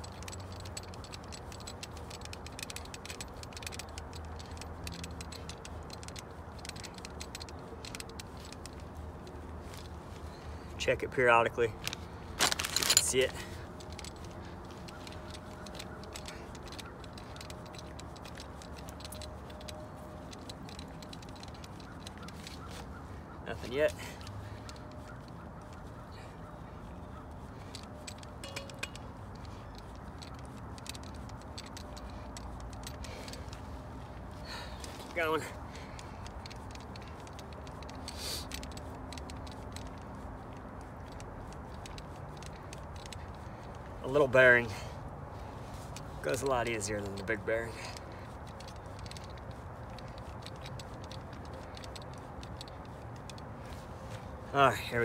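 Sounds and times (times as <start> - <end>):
grease gun pumping with clicks: 0.0 - 55.0.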